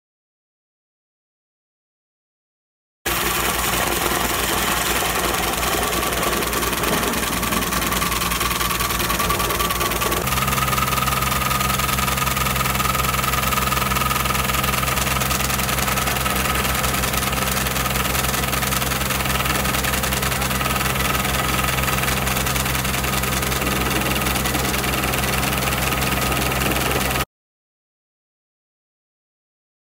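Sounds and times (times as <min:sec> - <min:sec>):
rock drill rattling: 0:03.1 - 0:27.2.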